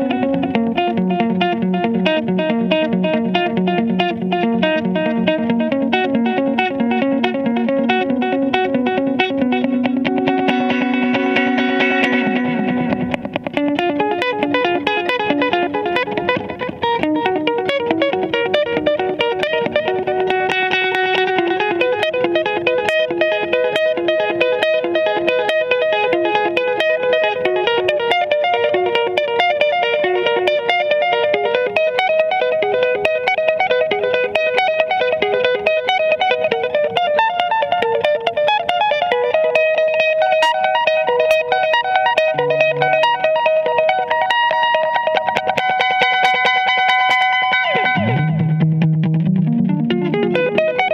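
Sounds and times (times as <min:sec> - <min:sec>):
fast electric guitar playing: 0:00.0 - 0:50.9.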